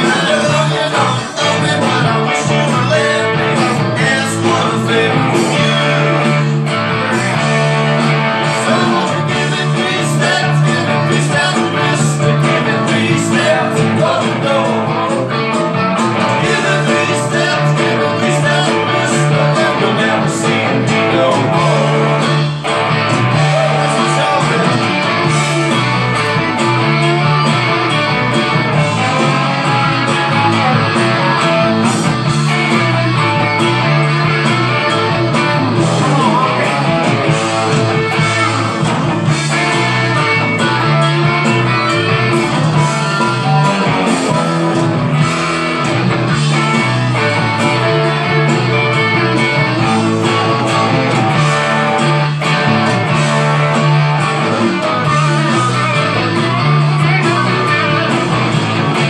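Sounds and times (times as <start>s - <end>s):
electric guitar: 0.0s - 59.0s
rock band backing track: 0.0s - 59.0s.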